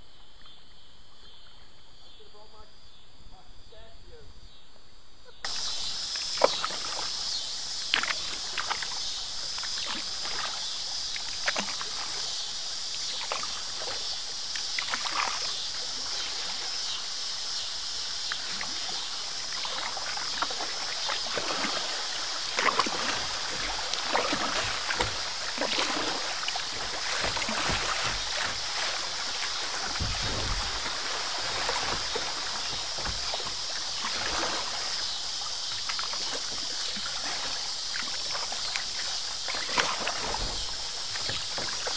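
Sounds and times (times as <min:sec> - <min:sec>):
paddle splashes and knocks: 0:05.5 - 0:41.9
water rushing around kayak hull: 0:05.5 - 0:41.9.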